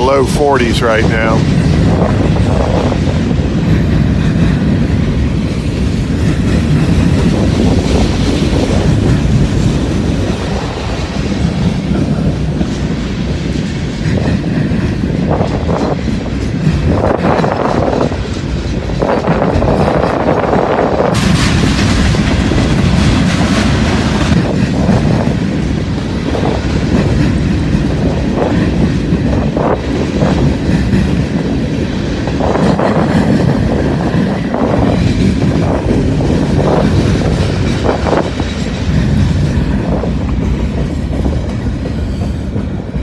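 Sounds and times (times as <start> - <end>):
freight train rumbling on rails: 0.0 - 43.0.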